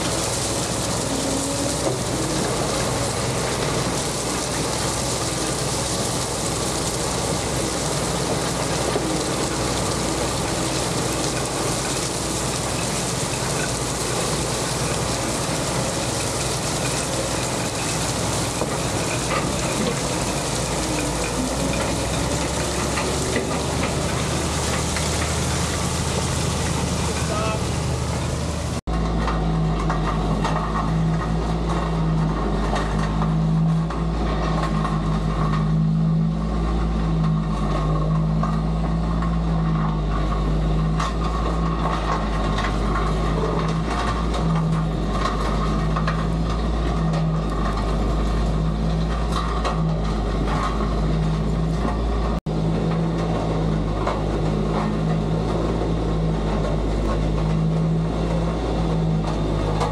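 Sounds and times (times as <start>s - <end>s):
heavy machine engine droning: 0.0s - 59.9s.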